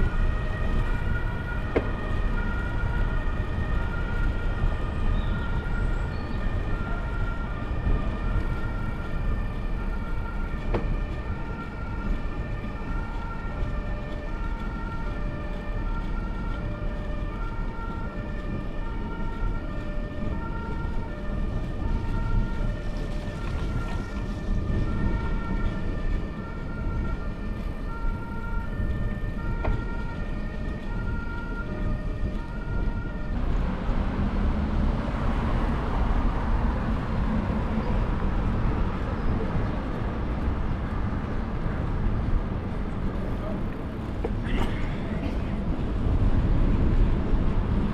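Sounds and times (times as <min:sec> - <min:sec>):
low wind: 0:00.0 - 0:47.9
road rumble: 0:00.0 - 0:47.9
two-tone emergency siren: 0:00.0 - 0:47.9.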